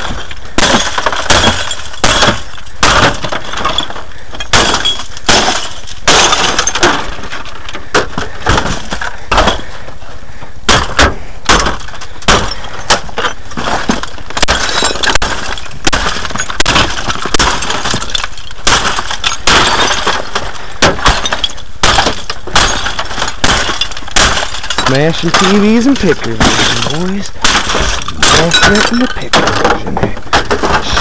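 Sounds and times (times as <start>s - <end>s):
glass breaking and crashing: 0.0s - 9.8s, 10.7s - 31.0s.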